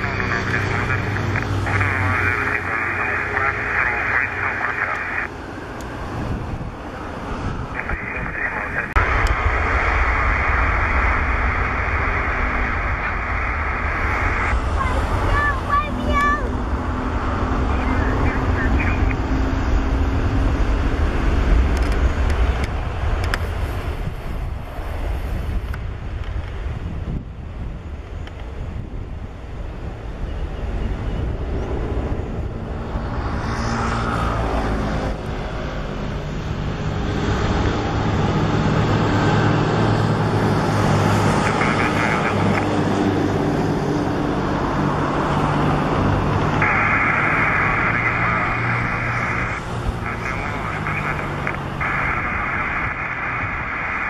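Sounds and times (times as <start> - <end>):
jet engines rumbling on takeoff: 0.0 - 54.0.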